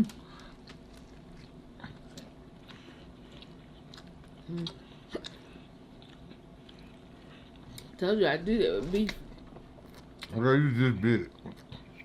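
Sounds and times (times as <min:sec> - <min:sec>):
person chewing food: 0:00.1 - 0:08.0, 0:09.2 - 0:10.4, 0:11.2 - 0:12.0.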